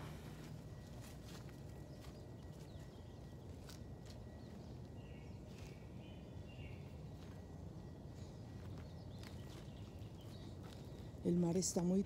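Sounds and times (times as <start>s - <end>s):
faint bird chirps: 0.0s - 12.0s
low steady rumble: 0.0s - 12.0s.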